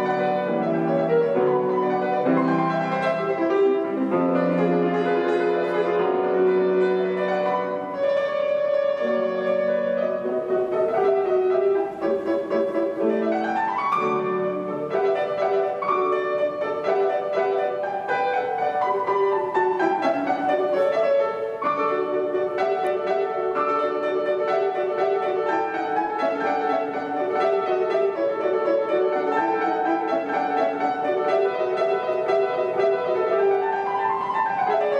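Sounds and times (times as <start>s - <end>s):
classical solo piano: 0.0s - 34.9s.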